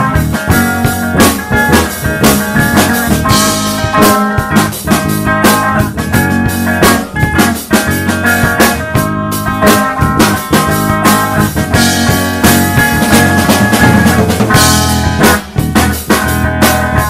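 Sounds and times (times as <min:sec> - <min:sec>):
rock instrumental band: 0:00.0 - 0:17.0.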